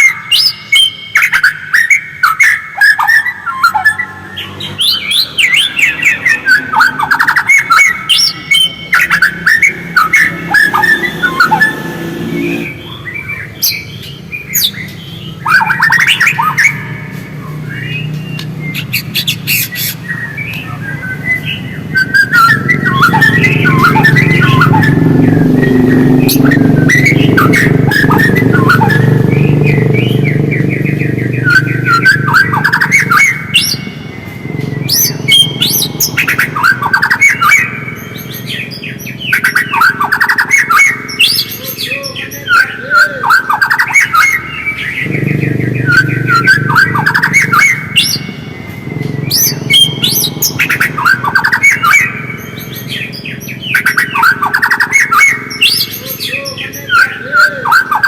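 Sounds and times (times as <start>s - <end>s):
bird twittering: 0.0s - 58.0s.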